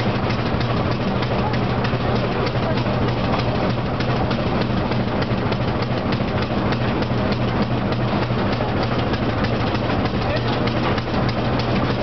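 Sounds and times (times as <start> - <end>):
rapid clicking from wheels: 0.0 - 12.0
train hum and rumble: 0.0 - 12.0.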